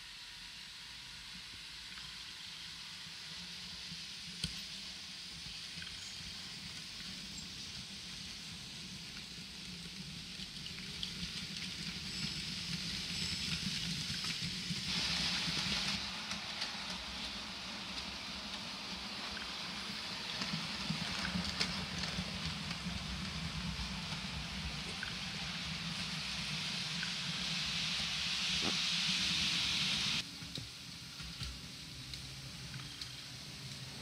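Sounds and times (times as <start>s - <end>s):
model train wheels rolling on rails: 0.0s - 34.0s.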